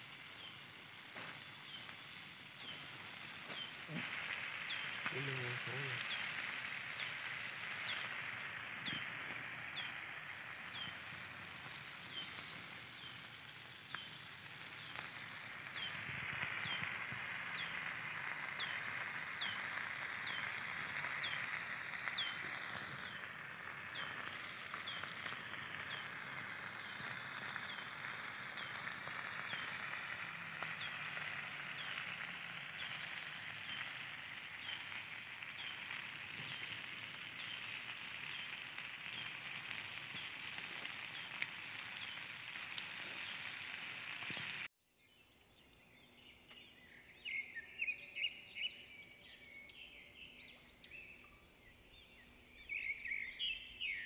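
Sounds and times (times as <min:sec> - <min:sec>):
steady high hiss: 0:00.0 - 0:44.7.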